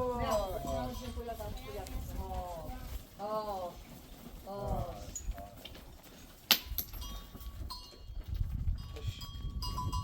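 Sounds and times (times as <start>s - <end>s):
goat bells ringing: 0.0s - 3.0s, 3.6s - 10.0s.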